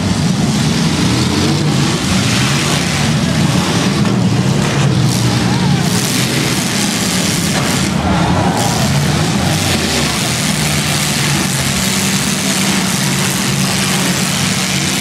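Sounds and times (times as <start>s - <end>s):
car engines droning loudly: 0.0s - 15.0s.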